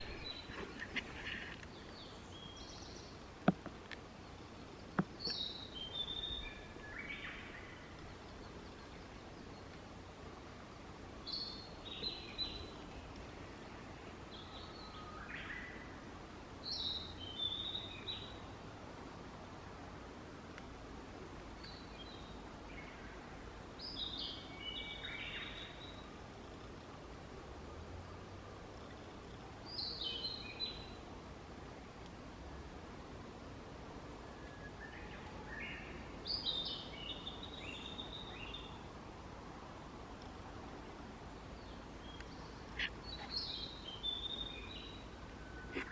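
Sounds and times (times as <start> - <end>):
songbirds singing: 0.0 - 18.7, 20.5 - 45.9.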